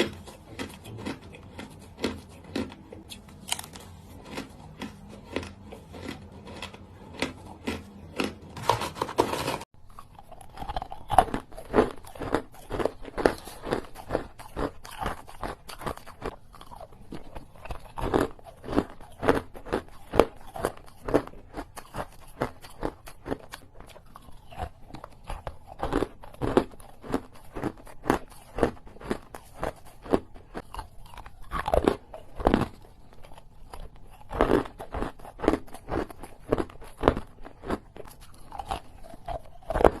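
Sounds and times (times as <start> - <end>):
ice being chewed: 0.0 - 40.0.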